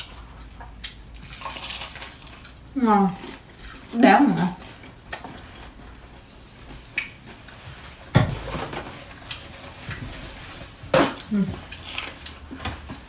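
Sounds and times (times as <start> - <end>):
people chewing crisp food: 0.0 - 8.0, 9.1 - 13.0.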